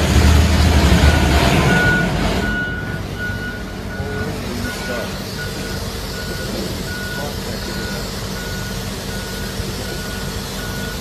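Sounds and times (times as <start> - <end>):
truck backup alarm beeping: 0.0 - 11.0
truck engine rumbling: 0.0 - 11.0.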